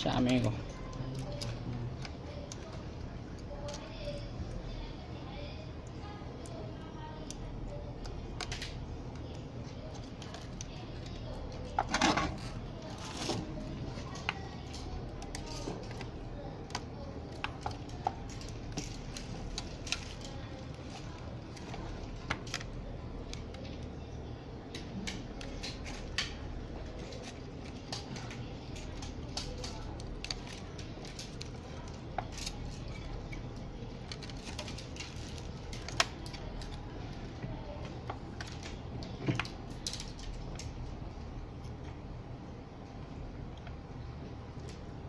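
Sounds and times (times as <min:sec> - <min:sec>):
low background hum: 0:00.0 - 0:45.0.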